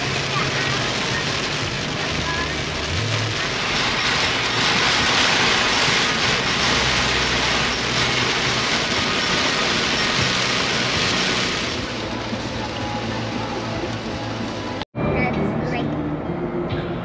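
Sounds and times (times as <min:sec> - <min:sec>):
road and wind noise: 0:00.0 - 0:14.8.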